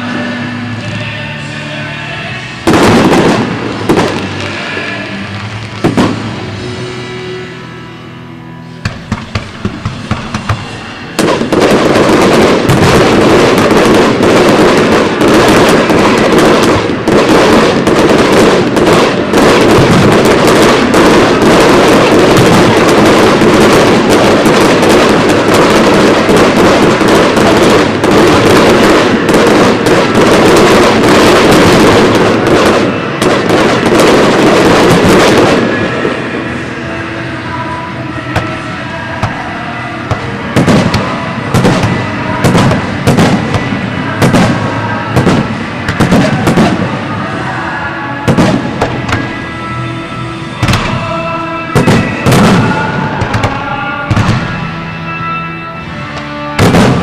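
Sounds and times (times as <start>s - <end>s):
fireworks bursting and crackling: 0.0s - 7.2s, 8.8s - 57.0s.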